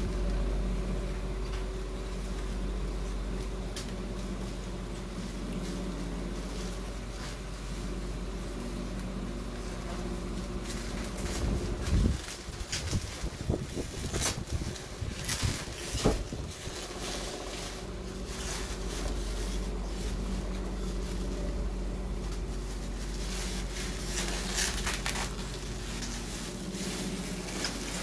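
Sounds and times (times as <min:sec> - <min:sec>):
steady low hum: 0:00.0 - 0:28.0
plastic and bubble wrap crinkling: 0:01.2 - 0:28.0.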